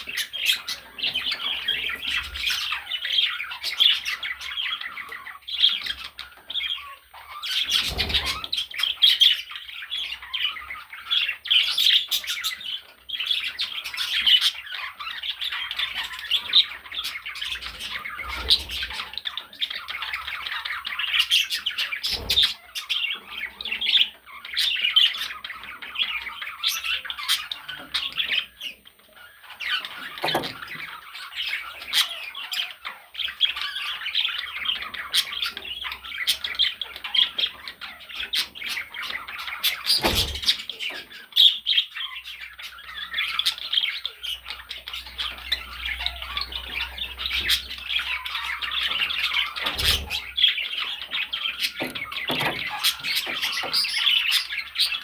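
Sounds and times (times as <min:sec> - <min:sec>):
budgerigar chattering: 0:00.0 - 0:55.0.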